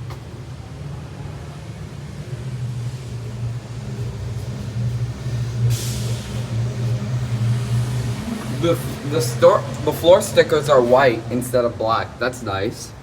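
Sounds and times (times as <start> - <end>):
low motor hum: 0.0 - 11.4.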